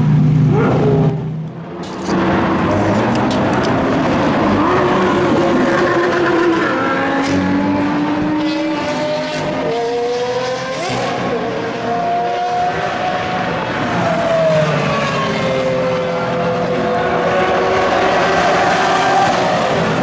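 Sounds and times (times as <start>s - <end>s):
supercar engines revving: 0.0s - 20.0s.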